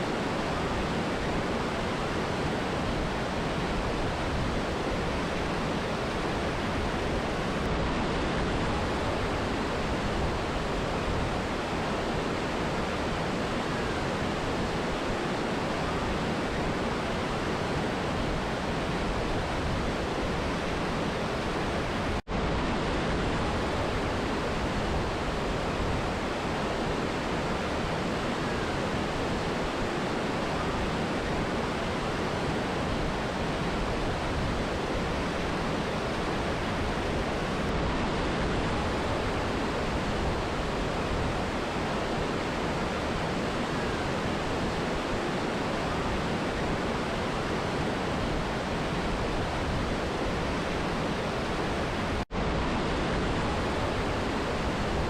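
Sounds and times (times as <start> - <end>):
river and waterfall rushing: 0.0 - 55.0.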